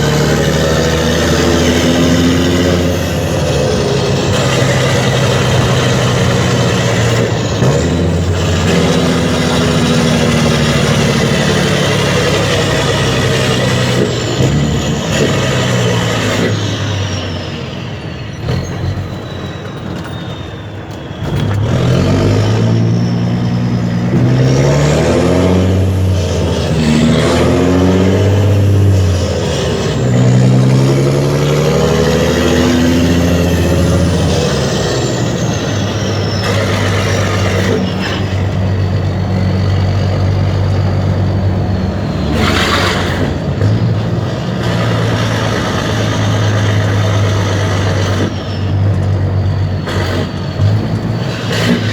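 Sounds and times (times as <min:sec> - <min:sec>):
diesel truck engine accelerating: 0:00.0 - 0:51.9.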